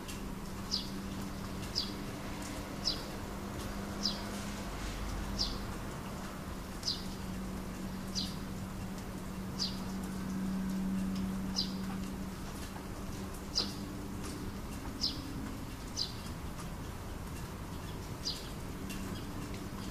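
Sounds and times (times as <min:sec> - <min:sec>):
light rain hissing: 0:00.0 - 0:19.9.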